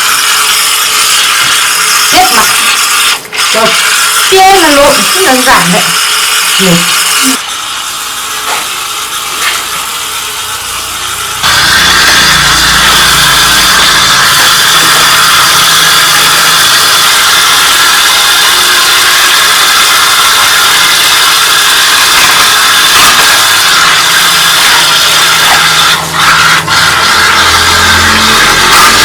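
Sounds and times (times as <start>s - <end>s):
machine motor running: 0.0s - 29.0s.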